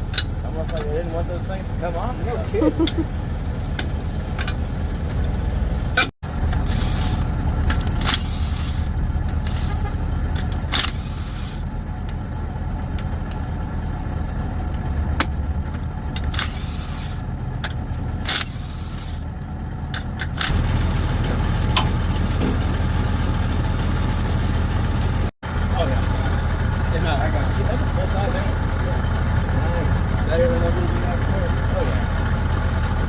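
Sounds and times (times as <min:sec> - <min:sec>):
low rumble of motor vehicles: 0:00.0 - 0:33.0.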